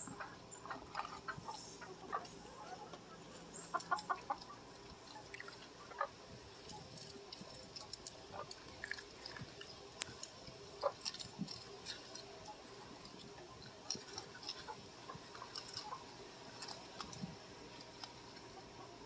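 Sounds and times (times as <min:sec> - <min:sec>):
raccoon chewing dry kibble: 0:03.3 - 0:19.0.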